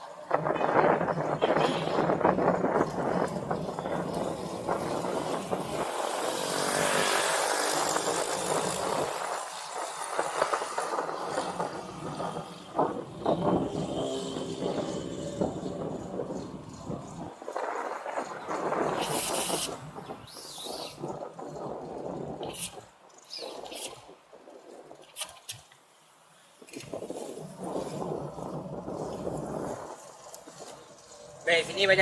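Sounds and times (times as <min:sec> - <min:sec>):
wind on microphone: 0:00.0 - 0:25.1, 0:26.5 - 0:32.0
road and traffic noise: 0:00.0 - 0:32.0.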